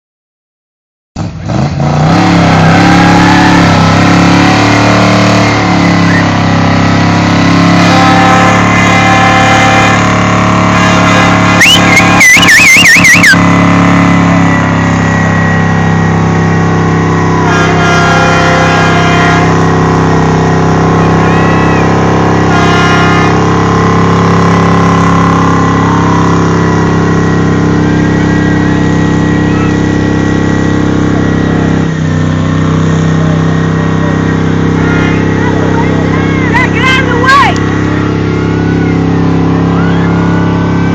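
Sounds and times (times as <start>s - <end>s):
car engine running loud: 1.2s - 40.9s.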